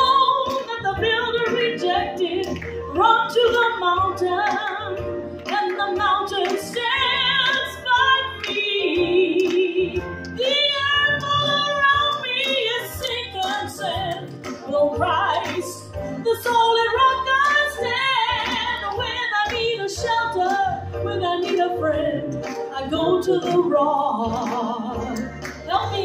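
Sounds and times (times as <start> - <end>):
woman singing into microphone: 0.0 - 26.0.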